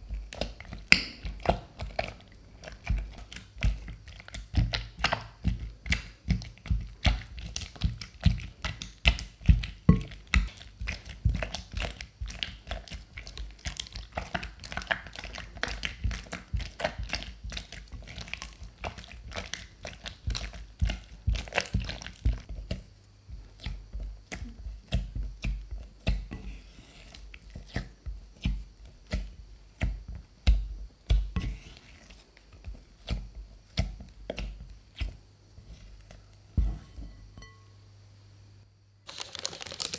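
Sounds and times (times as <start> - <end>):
spatula beating sticky dough: 0.0 - 37.6.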